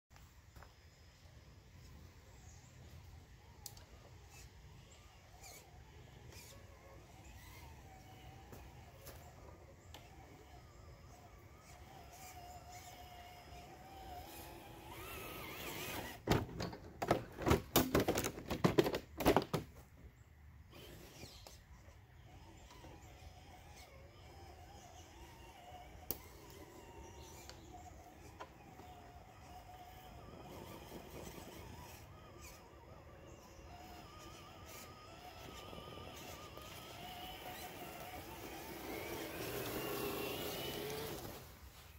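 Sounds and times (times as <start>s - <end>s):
electric motor and gears whining: 0.2s - 19.5s, 20.6s - 41.9s
toy truck tumbling clatter: 5.4s - 19.9s, 20.7s - 41.6s.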